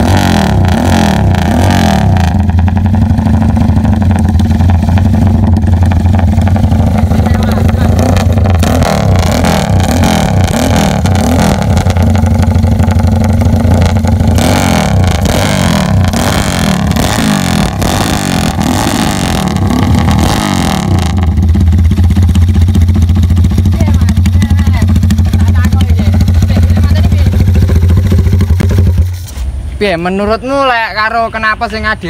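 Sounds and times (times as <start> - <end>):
motorcycle engine revving: 0.0 - 29.5
motorcycle engine idling: 2.2 - 29.3.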